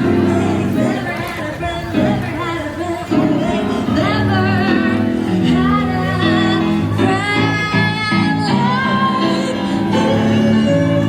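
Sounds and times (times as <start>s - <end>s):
held bass notes: 0.0s - 11.0s
person singing: 0.0s - 11.0s.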